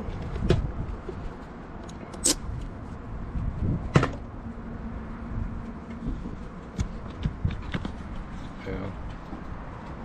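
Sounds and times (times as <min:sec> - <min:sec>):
wind rumbling on microphone: 0:00.0 - 0:01.4, 0:02.4 - 0:10.0.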